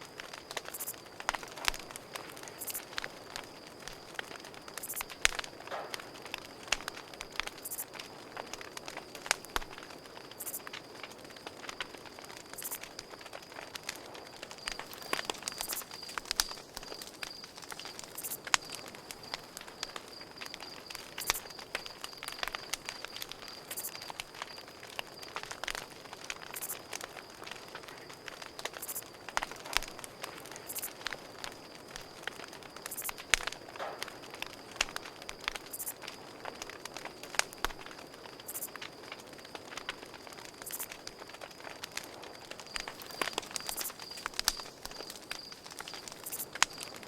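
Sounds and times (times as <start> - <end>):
campfire crackling and popping: 0.0 - 47.0
cricket chirping: 0.0 - 47.0.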